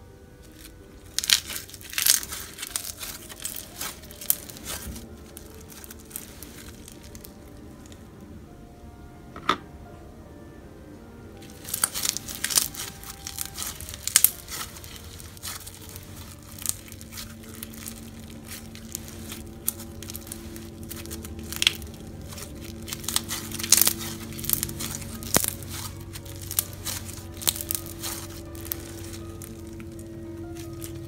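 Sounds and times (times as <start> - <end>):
slime crackling and popping: 0.4 - 8.1, 11.4 - 31.0.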